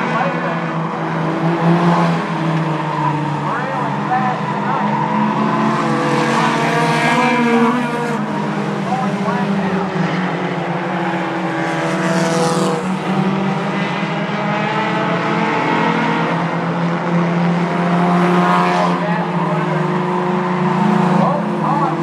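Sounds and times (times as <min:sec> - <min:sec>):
race car engines droning: 0:00.0 - 0:22.0
race cars passing close: 0:00.0 - 0:22.0.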